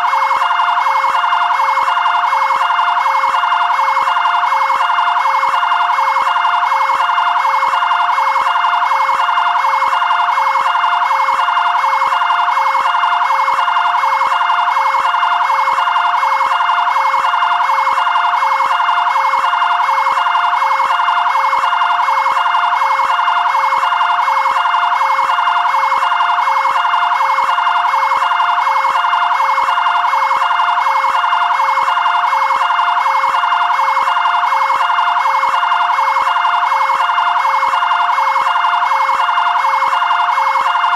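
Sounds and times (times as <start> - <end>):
fire engine two-tone siren: 0.0 - 40.9.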